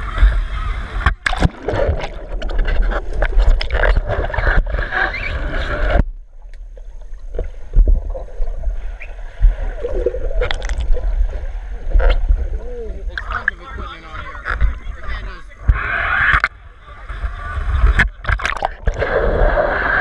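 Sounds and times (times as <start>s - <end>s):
churning underwater gurgling: 0.0s - 16.7s, 17.6s - 20.0s
low underwater rumble: 0.0s - 20.0s.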